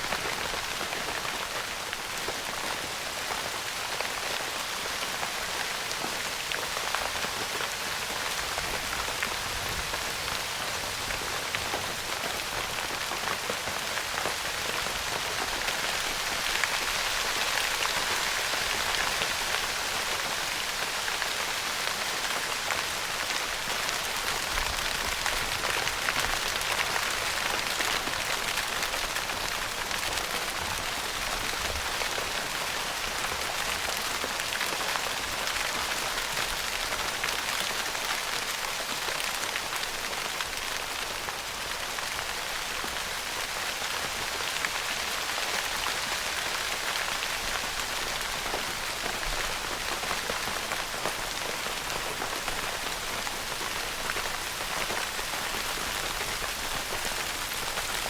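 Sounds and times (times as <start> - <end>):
rain pattering on tent fabric: 0.0 - 58.0.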